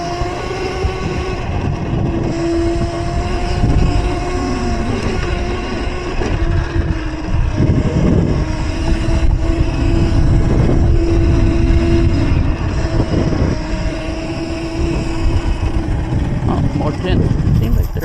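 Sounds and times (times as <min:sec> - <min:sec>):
electric motor whining: 0:00.0 - 0:18.0
wind rumbling on microphone: 0:00.0 - 0:18.0.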